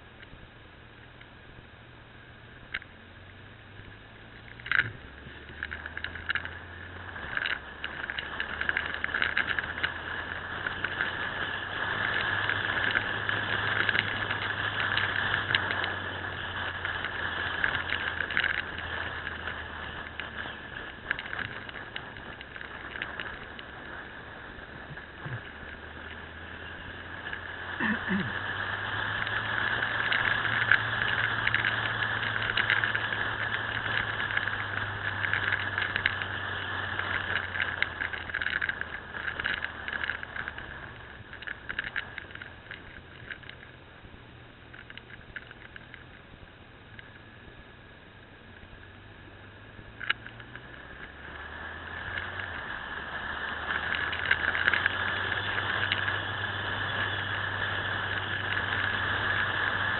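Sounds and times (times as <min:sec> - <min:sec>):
motorcycle engine hum: 0:00.0 - 0:59.9.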